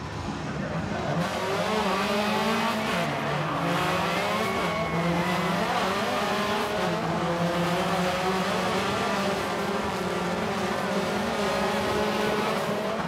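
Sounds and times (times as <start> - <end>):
rally car engine revving: 0.1 - 13.0.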